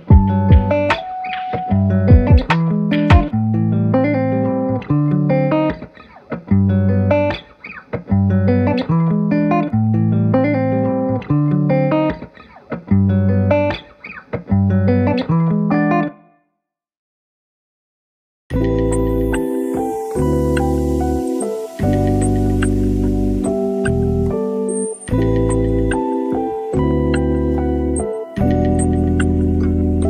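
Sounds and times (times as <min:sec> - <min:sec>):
instrumental music: 0:00.0 - 0:16.2, 0:18.5 - 0:30.0.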